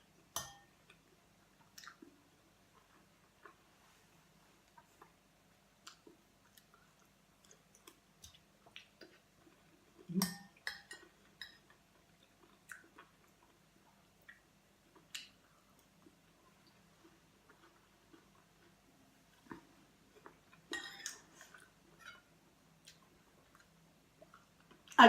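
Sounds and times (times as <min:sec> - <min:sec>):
person chewing food: 0:00.8 - 0:25.0.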